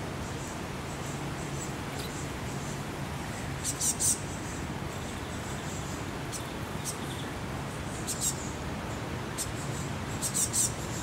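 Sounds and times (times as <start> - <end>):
steady outdoor hiss: 0.0 - 11.0
small birds high thin calls: 0.2 - 11.0.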